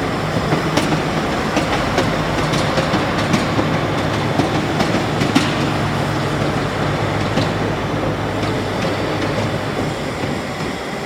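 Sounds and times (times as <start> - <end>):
bulldozer diesel engine drone: 0.0 - 11.0.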